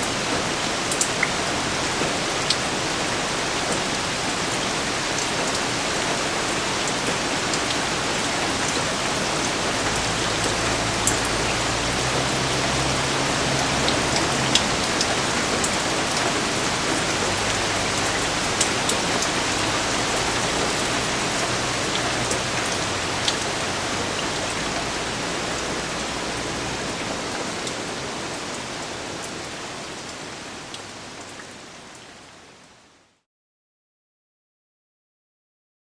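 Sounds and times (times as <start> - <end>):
raindrops striking close by: 0.0 - 32.4
steady rain falling: 0.0 - 33.2.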